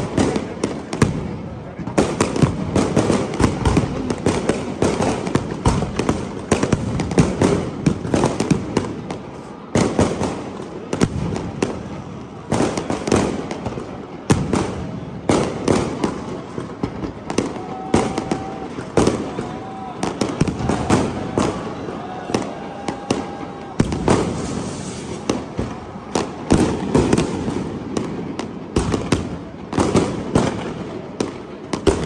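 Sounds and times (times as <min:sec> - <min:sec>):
fireworks crackling: 0:00.0 - 0:32.0
loud firework bangs: 0:00.0 - 0:32.0.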